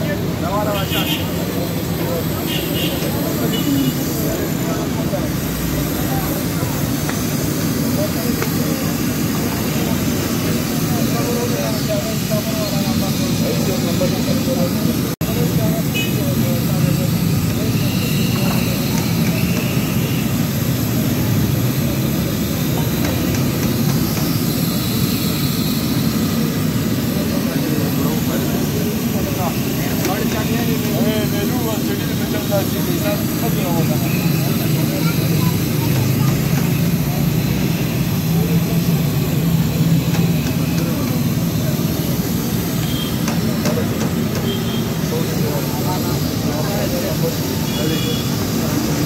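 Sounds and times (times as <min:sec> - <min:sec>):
gas burner running: 0:00.0 - 0:49.0.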